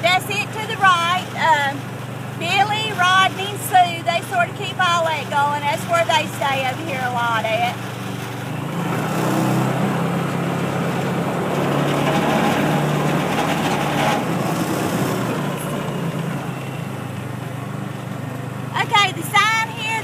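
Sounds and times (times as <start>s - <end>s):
small vehicle engine running: 0.0s - 20.0s.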